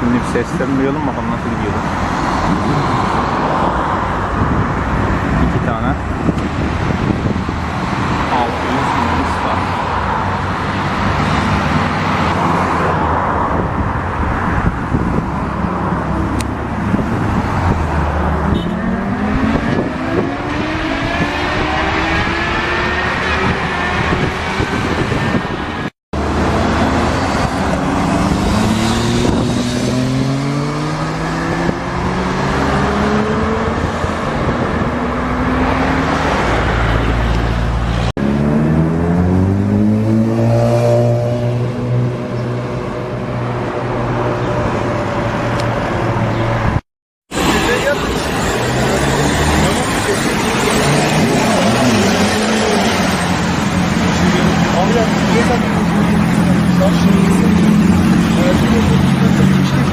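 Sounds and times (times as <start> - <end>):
road noise: 0.0 - 59.9
rushing wind: 0.0 - 59.9.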